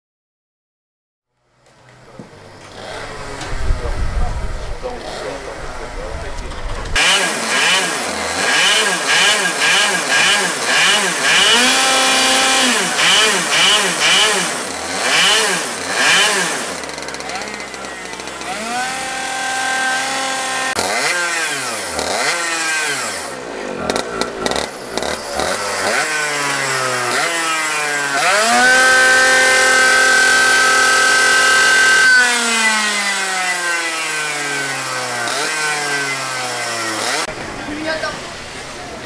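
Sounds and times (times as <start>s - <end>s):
kart engines revving: 1.9s - 39.0s.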